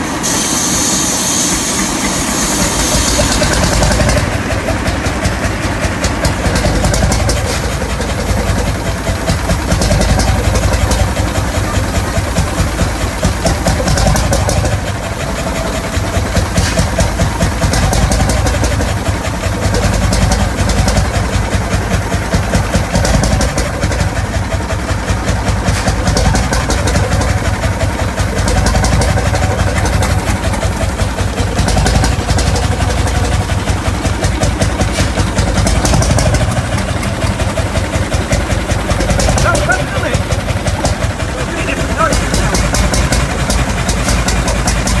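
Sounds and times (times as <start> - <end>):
stationary engine knocking: 0.0 - 45.0.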